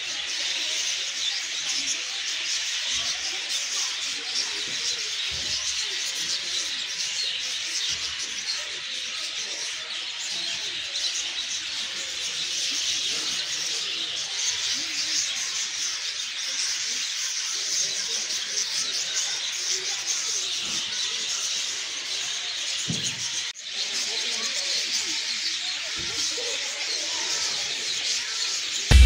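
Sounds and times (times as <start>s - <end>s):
chorus of small birds chirping: 0.0s - 29.0s.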